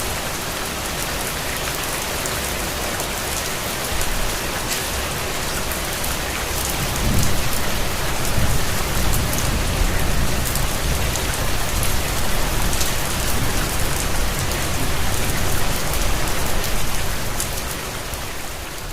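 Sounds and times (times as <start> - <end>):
rain pattering: 0.0 - 18.9.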